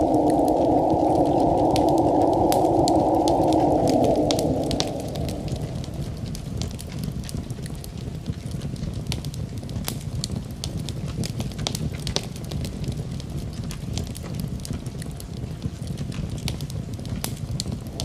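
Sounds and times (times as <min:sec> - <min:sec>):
gentle wind: 0:00.0 - 0:18.0
wood fire crackling and popping: 0:00.0 - 0:18.0.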